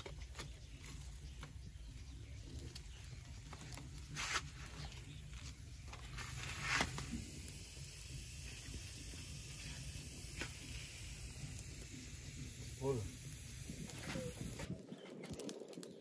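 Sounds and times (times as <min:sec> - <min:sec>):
low steady rumble: 0:00.0 - 0:14.7
fire hissing flares: 0:00.0 - 0:15.9
wood fire crackling and popping: 0:00.0 - 0:16.0.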